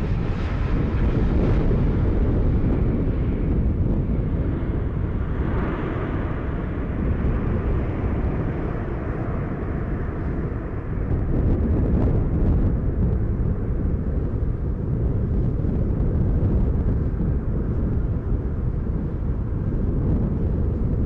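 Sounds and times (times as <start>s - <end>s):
jet airliner engine rumble: 0.0s - 21.0s.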